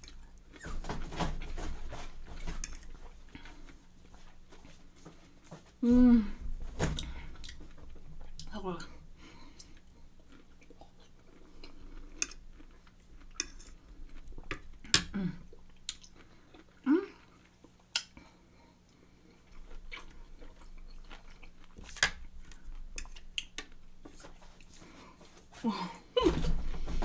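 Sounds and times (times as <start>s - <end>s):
person chewing juicy fruit: 1.4s - 5.4s, 7.0s - 8.5s, 9.3s - 25.5s.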